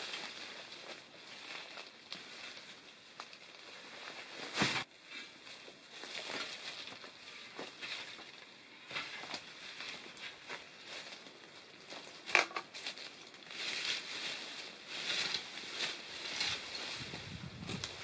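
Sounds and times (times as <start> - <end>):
brambles rustling and crackling: 0.0 - 18.0.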